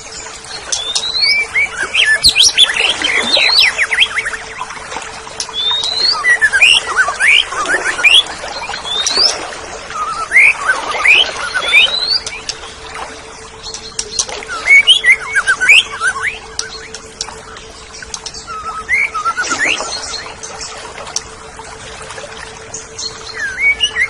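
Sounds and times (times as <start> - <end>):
songbird whistling and chirping: 0.6 - 4.7, 5.4 - 12.7, 13.6 - 21.2, 22.7 - 24.0.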